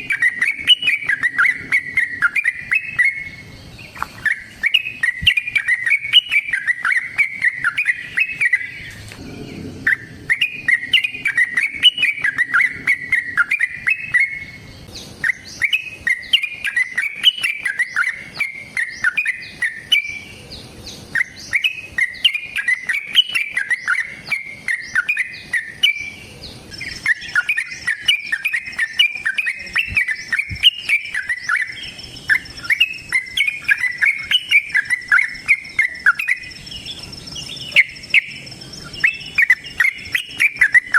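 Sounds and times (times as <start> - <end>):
bird singing bubbly chattering notes: 0.0 - 40.9.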